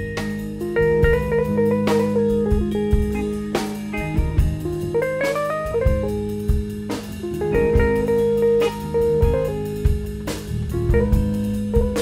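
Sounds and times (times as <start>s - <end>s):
funk band playing: 0.0s - 12.0s
lead line with bent notes: 0.0s - 12.0s.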